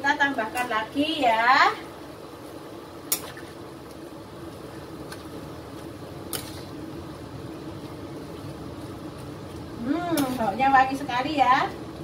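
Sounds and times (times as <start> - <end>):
stew cooking with low rumble: 0.0 - 12.0.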